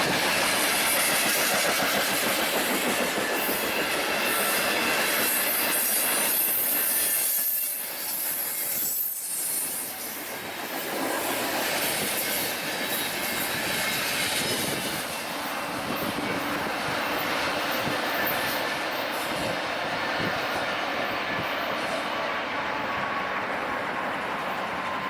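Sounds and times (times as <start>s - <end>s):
freight train cars rolling past: 0.0s - 25.0s.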